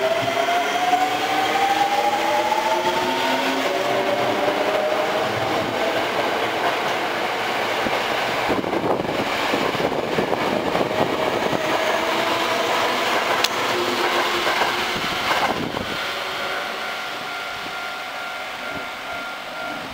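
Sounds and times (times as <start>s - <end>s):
electric train wheel and running noise: 0.0s - 19.9s.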